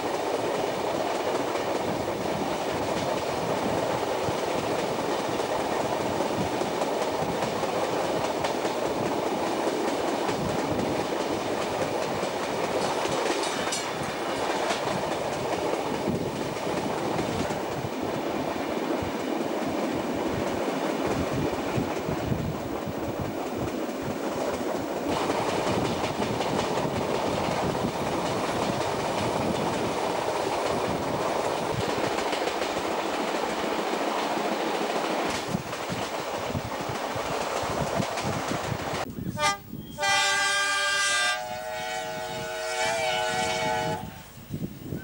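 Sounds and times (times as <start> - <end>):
train rumble and wheel clatter: 0.0 - 45.0.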